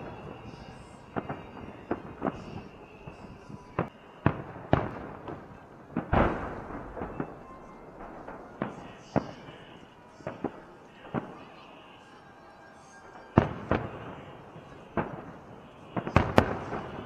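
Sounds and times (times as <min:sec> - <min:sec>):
fireworks booming with echo: 0:00.0 - 0:17.0.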